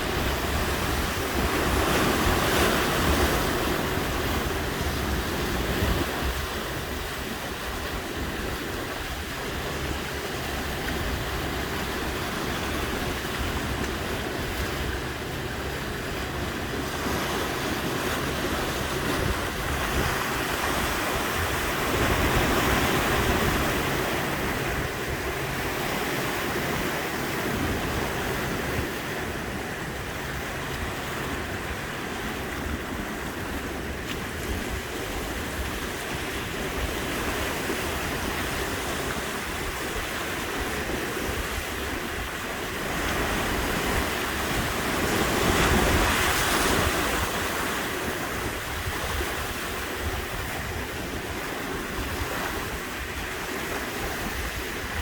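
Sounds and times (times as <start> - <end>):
ocean waves washing in: 0.0 - 55.0.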